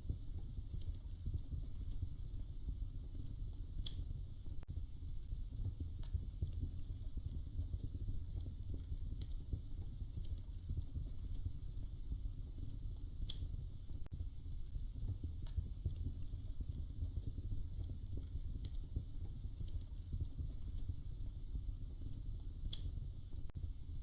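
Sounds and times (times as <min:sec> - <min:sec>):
wood fire crackling: 0:00.0 - 0:24.0
sharp pops from fire: 0:00.1 - 0:04.6, 0:05.6 - 0:14.1, 0:14.9 - 0:23.6.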